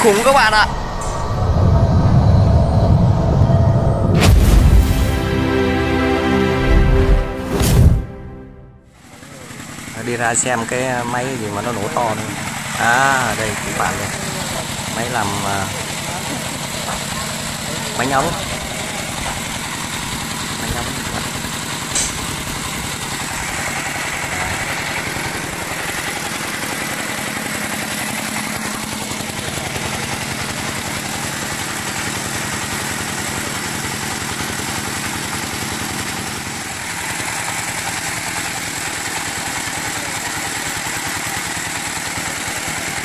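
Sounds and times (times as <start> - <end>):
single-cylinder diesel engine running: 8.4 - 43.0.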